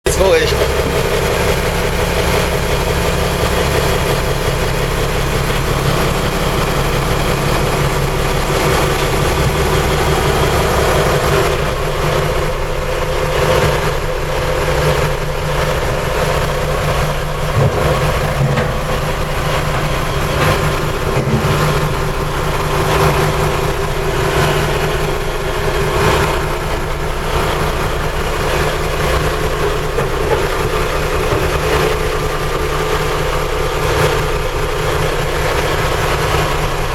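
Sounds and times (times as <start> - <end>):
boat diesel engine idling: 0.0 - 36.9.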